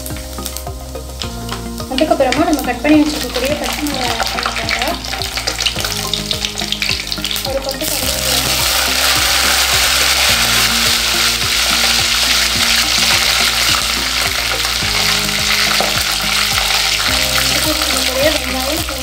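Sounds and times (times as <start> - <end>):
leaves frying in hot oil: 0.0 - 19.0.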